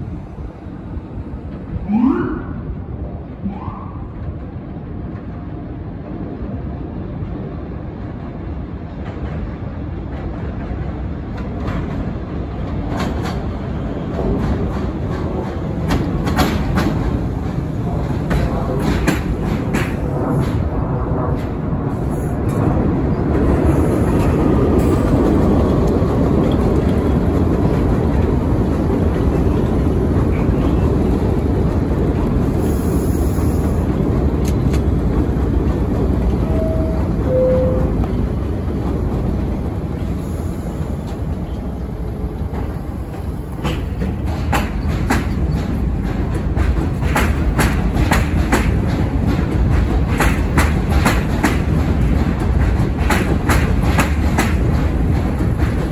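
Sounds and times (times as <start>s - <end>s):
subway train rumbling: 0.0s - 55.9s
wheels clacking over rail joints: 9.0s - 40.2s, 41.0s - 55.9s.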